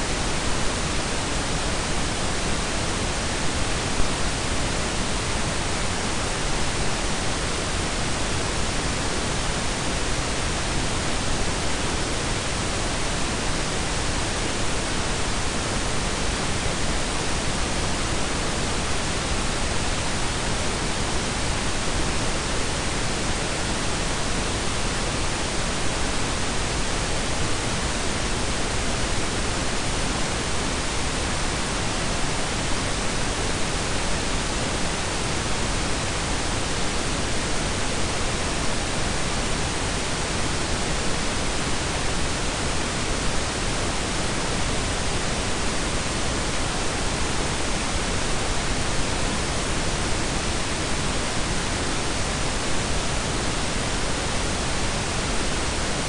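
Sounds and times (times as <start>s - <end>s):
steady rumbling noise hiss: 0.0s - 56.0s.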